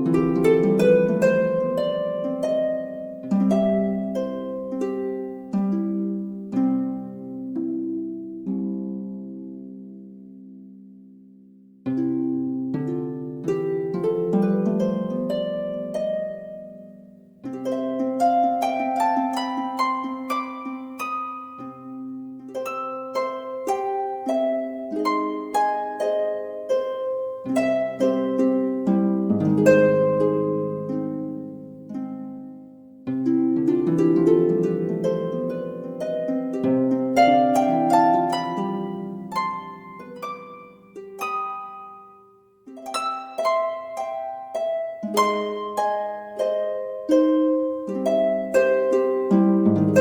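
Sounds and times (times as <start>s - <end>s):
plucked harp music: 0.0s - 50.0s.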